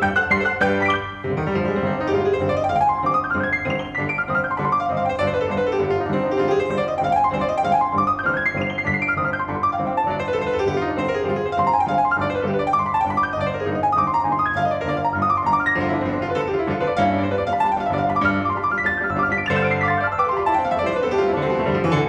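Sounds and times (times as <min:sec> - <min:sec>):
fast grand piano runs: 0:00.0 - 0:22.0.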